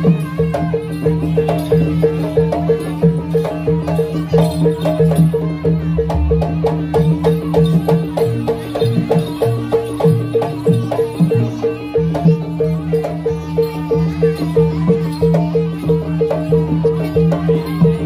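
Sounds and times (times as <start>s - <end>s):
fast pitched percussion: 0.0s - 18.0s.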